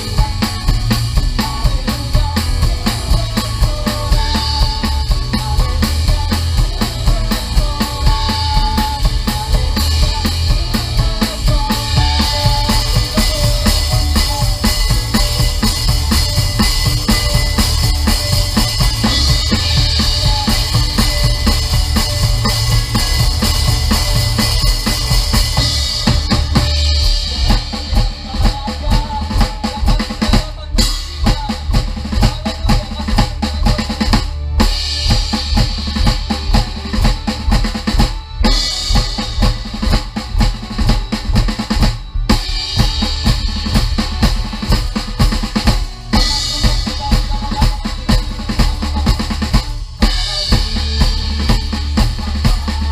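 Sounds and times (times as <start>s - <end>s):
band playing up-tempo song: 0.0s - 52.9s
drum kit beat: 0.0s - 52.9s.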